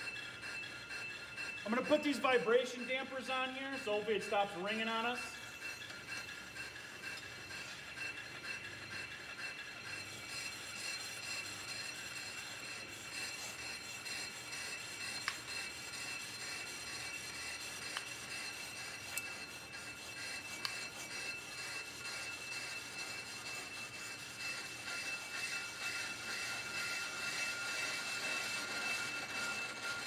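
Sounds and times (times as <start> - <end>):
cutter scraping rotor: 0.0 - 30.0.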